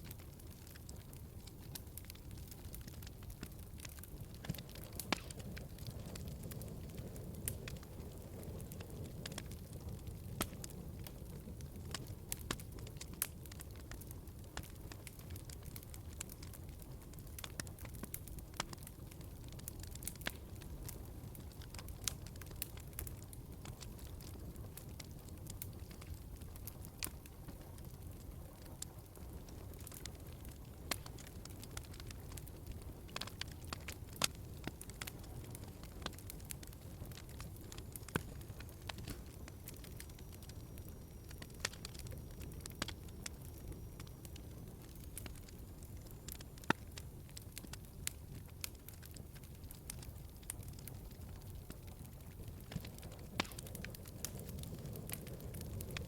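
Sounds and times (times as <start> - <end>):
fire burning with low rumble: 0.0 - 56.0
fire crackling and popping: 0.0 - 56.0.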